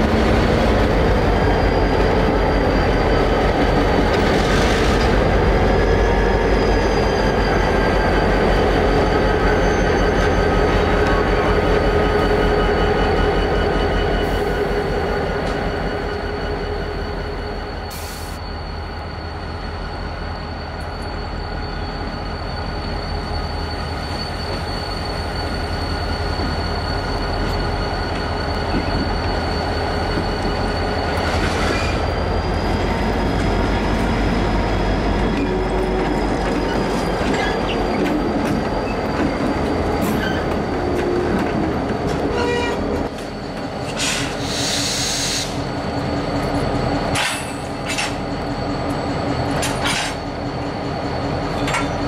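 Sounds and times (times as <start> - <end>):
diesel locomotive engines rumbling: 0.0 - 52.0
wheel flanges squealing: 0.0 - 52.0.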